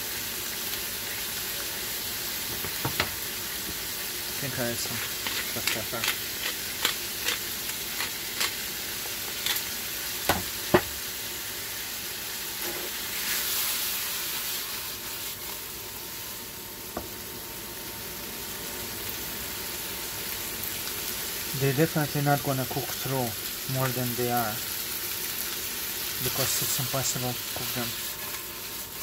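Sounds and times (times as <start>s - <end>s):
meat sizzling in a skillet: 0.0s - 29.0s.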